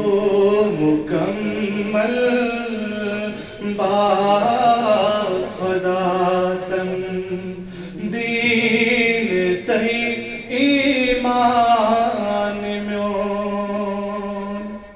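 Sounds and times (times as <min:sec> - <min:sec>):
man chanting into a microphone: 0:00.0 - 0:14.9.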